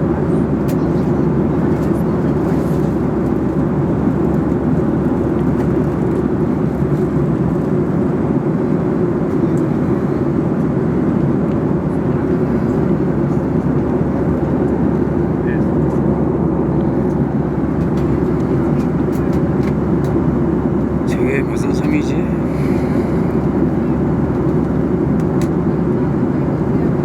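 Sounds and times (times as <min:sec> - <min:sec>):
jet airliner cabin noise: 0:00.0 - 0:27.0.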